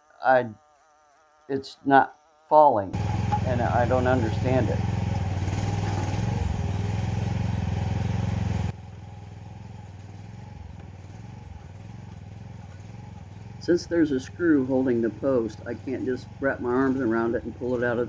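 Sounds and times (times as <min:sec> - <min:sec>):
earthmoving equipment engine running: 0:02.9 - 0:18.0.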